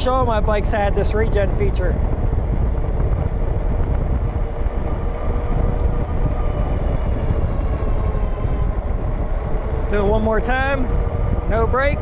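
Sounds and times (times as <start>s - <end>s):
tires rolling on pavement: 0.0s - 12.0s
wind rushing over microphone: 0.0s - 12.0s.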